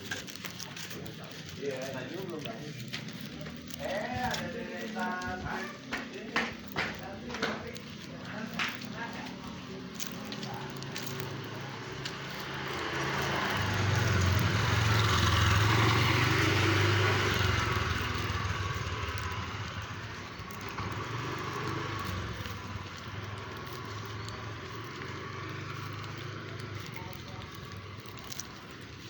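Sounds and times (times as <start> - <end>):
low steady traffic noise: 0.0 - 29.0
vehicle passing close by: 0.0 - 29.0.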